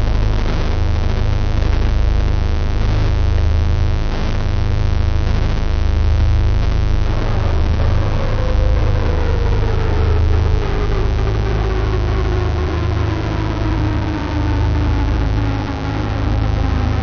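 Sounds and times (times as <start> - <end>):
distorted noisy drone music: 0.0 - 17.0.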